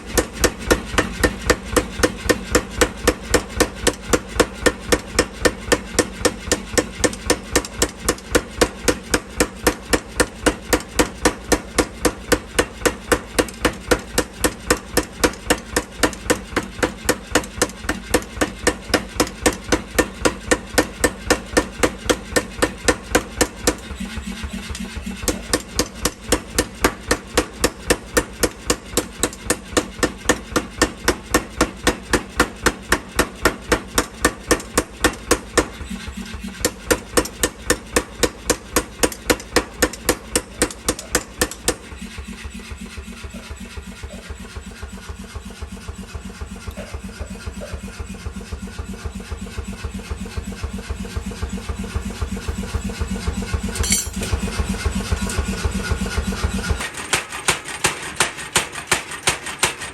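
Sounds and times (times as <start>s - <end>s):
motor hum: 0.0s - 59.9s
power hammer striking steel: 0.0s - 59.9s.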